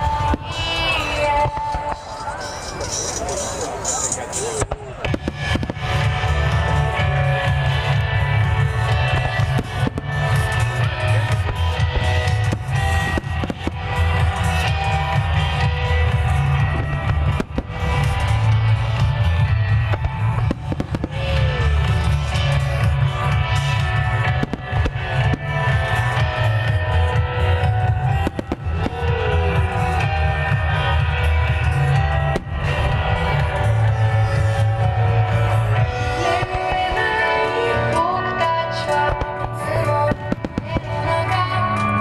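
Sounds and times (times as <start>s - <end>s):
fireworks bursts cracking: 0.0s - 42.0s
loud music with drums and guitar: 5.1s - 42.0s.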